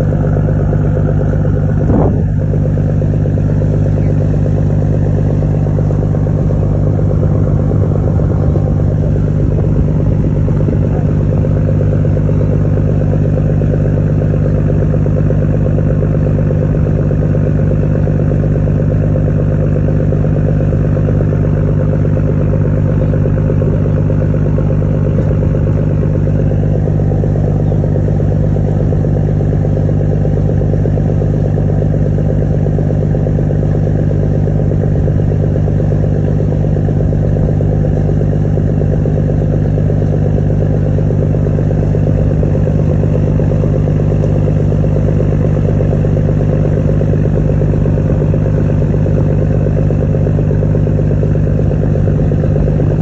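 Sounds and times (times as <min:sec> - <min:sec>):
ferry engines droning: 0:00.0 - 0:53.0.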